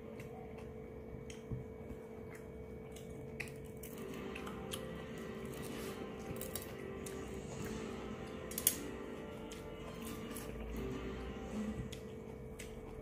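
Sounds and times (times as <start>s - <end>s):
chewing: 0.0s - 13.0s
steady low hum: 0.0s - 13.0s.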